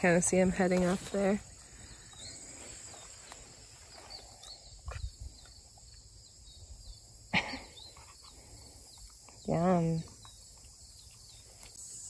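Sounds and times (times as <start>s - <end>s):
high insect buzz: 0.0s - 12.0s.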